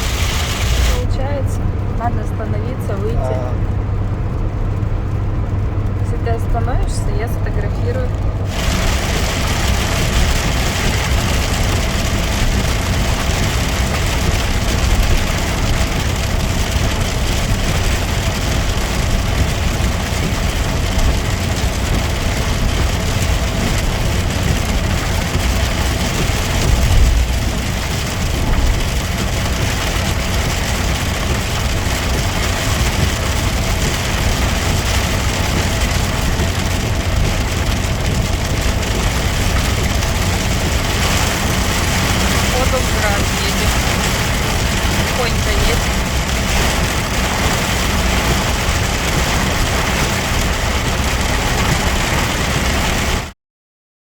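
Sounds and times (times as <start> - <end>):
engine and road rumble in cabin: 0.0 - 53.4
car going over bump: 8.1 - 53.2.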